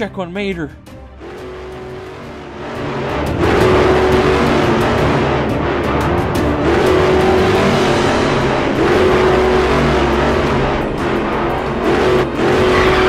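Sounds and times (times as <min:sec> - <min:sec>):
background music: 0:00.0 - 0:13.0
race car engine sound effect: 0:01.1 - 0:13.0.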